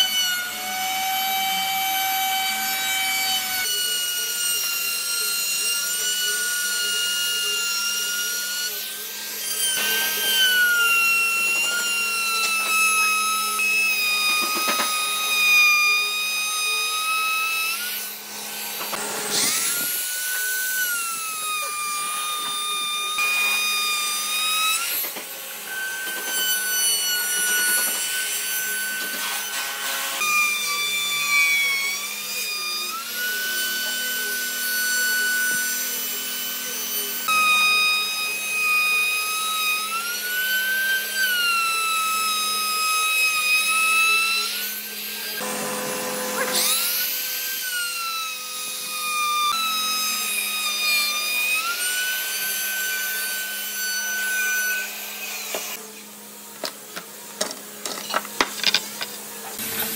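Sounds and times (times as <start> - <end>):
trim router whining: 0.0 - 59.9.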